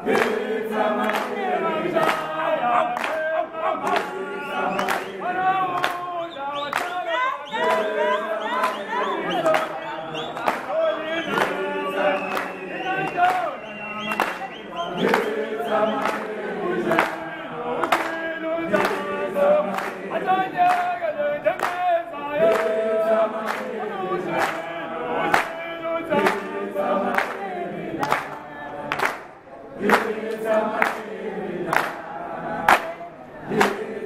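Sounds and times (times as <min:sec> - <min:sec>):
group singing in chorus: 0:00.0 - 0:34.0
hand clapping: 0:00.0 - 0:34.0.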